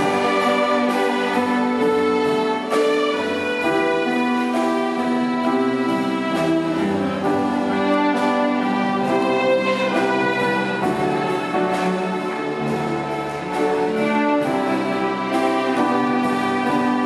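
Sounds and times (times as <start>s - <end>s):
orchestra playing: 0.0s - 17.0s.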